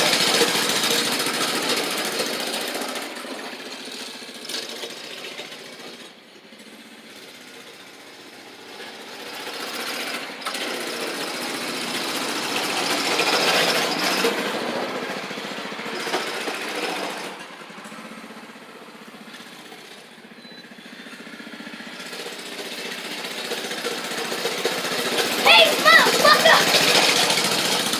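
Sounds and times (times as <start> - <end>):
mini bike engine running: 0.0 - 27.9.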